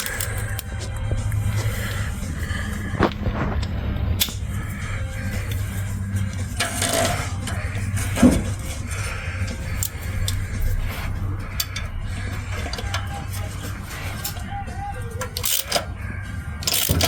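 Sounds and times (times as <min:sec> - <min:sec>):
steady low hum: 0:00.0 - 0:17.0
metal tools clinking and tapping: 0:03.1 - 0:17.0.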